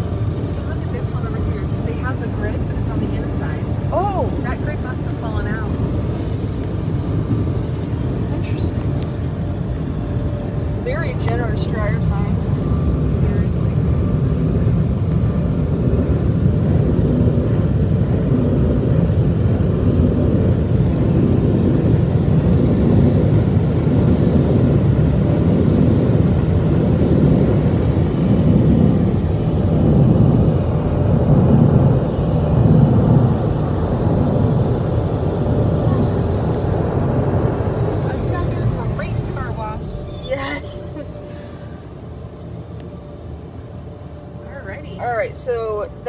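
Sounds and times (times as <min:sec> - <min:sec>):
car wash air dryers roaring: 0:00.0 - 0:46.0.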